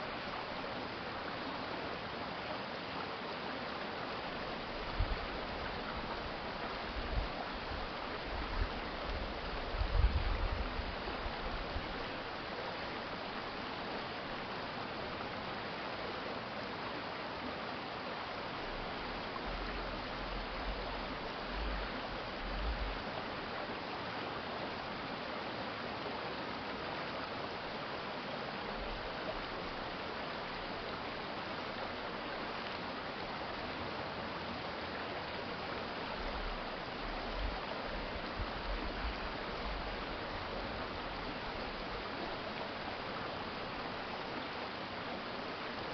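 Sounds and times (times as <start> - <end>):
stream flowing: 0.0 - 45.9.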